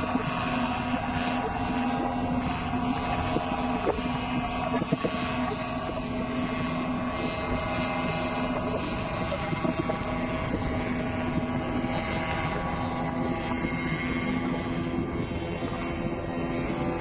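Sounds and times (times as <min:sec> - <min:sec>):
paramotor engine and propeller: 0:00.0 - 0:17.0
wind on microphone: 0:00.0 - 0:17.0.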